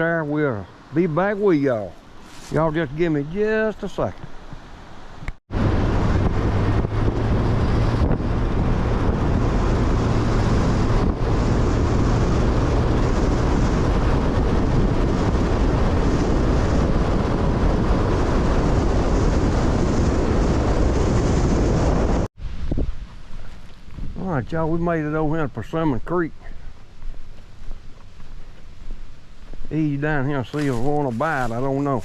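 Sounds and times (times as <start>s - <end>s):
engine humming: 0.0s - 32.0s
wind rush on microphone: 5.2s - 32.0s.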